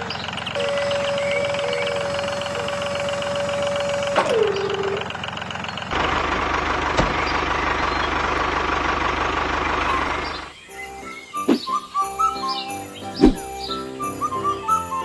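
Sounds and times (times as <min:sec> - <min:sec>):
tractor engine rumbling: 0:00.0 - 0:15.0.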